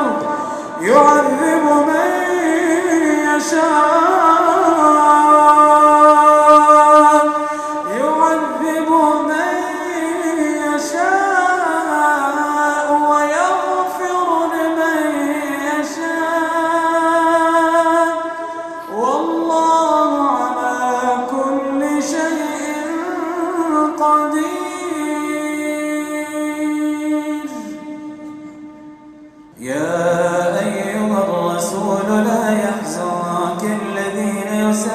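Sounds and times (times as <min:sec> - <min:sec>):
man chanting melodically: 0:00.0 - 0:28.7, 0:29.6 - 0:34.9.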